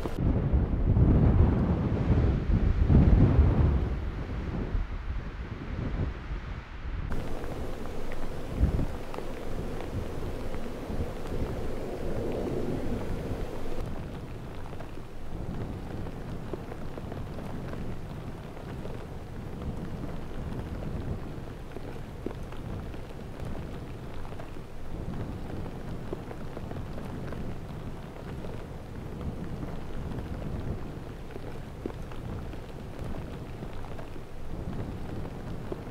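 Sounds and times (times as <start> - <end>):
blizzard wind rumbling: 0.0 - 35.9
faint ticks: 7.1 - 35.9.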